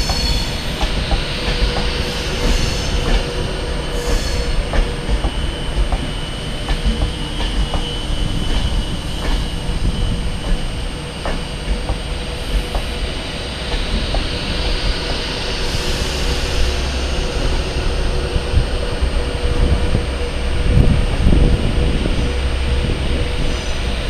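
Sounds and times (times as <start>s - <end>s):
electric train rumbling: 0.0s - 24.0s
hiss: 0.0s - 24.0s
train wheels clicking over rail joints: 0.0s - 24.0s.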